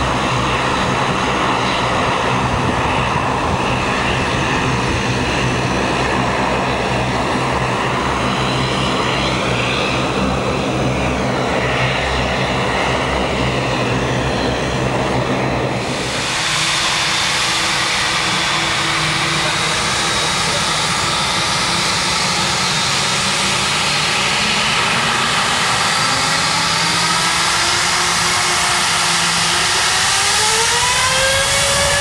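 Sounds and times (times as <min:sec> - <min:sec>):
jet engines rumbling at takeoff: 0:00.0 - 0:32.0
jet taxiing hissing whine: 0:00.0 - 0:32.0.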